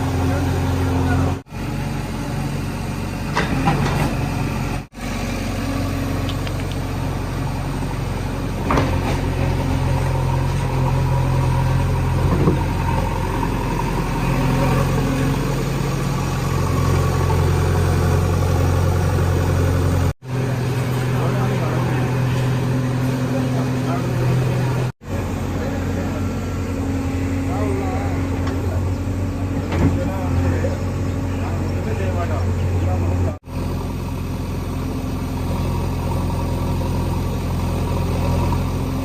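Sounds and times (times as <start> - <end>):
diesel engine running steadily: 0.0 - 39.0.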